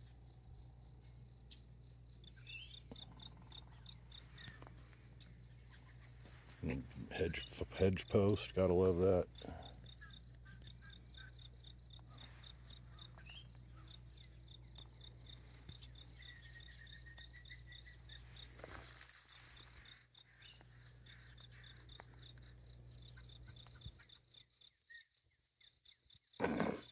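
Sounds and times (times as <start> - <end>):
insect chirping: 0.0 - 26.9.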